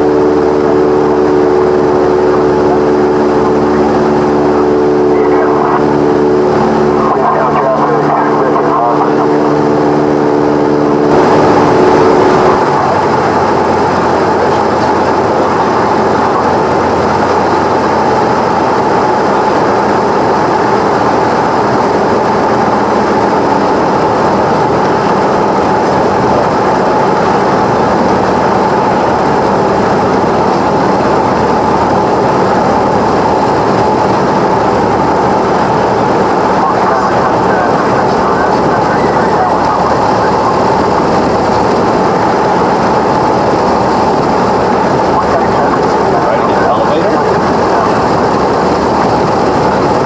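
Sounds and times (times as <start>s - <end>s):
propeller plane engine drone: 0.0s - 50.0s.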